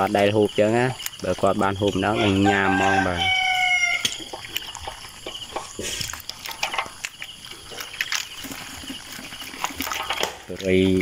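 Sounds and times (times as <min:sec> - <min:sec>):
gill net rustling: 0:01.8 - 0:11.0.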